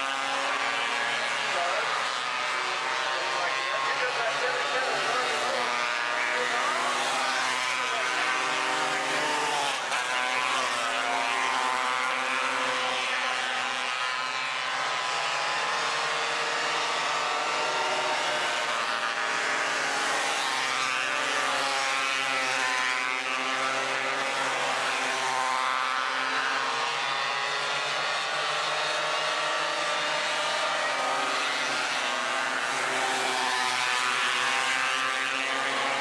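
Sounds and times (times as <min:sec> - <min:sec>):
race car engines passing: 0:00.0 - 0:36.0.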